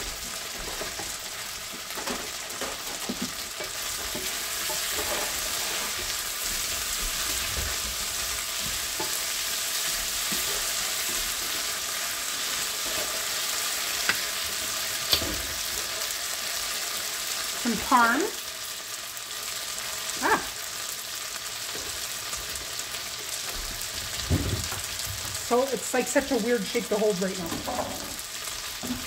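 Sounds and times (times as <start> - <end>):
gnocchi sizzling in butter: 0.0 - 29.0.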